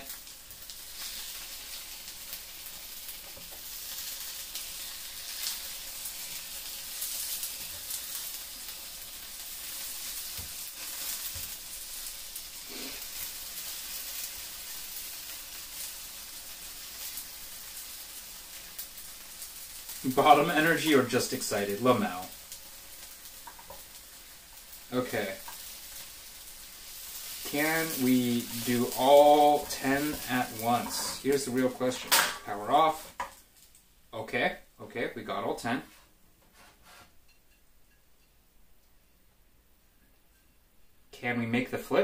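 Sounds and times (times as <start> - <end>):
dumplings sizzling in oil: 0.0 - 34.8.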